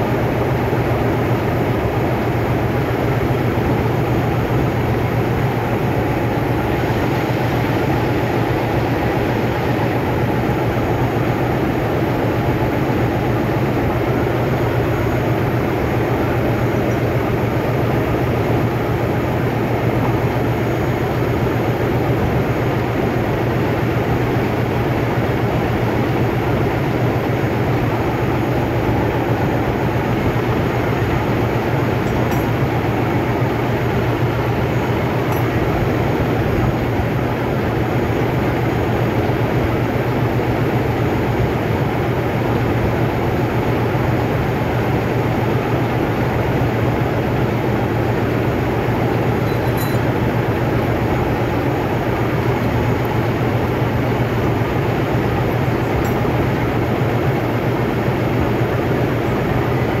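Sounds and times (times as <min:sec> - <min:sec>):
heavy machinery droning: 0:00.0 - 1:00.0.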